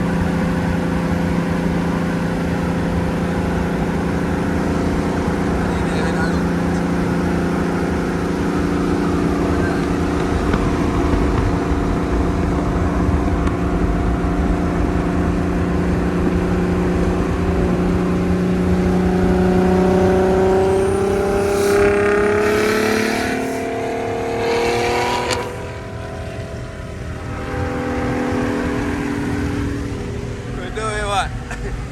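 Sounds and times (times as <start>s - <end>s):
turbo car engine pulling: 0.0s - 31.9s.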